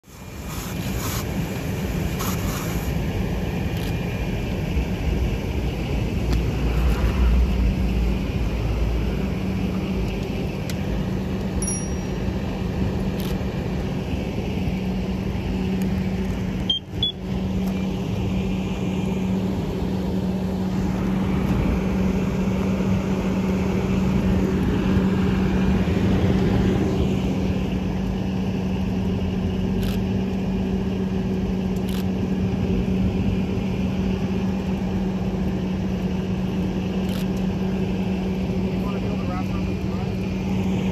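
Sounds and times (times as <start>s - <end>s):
fire burning: 0.0s - 40.9s.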